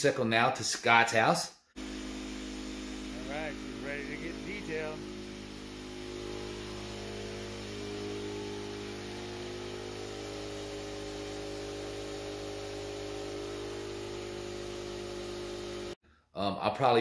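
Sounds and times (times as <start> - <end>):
low mechanical hum: 1.8 - 16.0.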